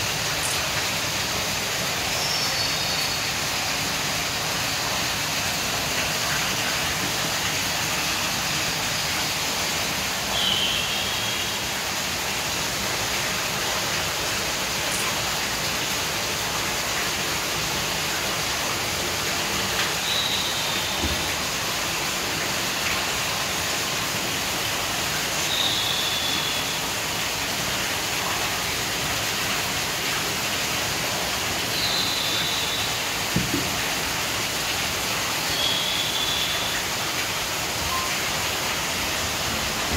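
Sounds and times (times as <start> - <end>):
steady rushing water: 0.0 - 39.9.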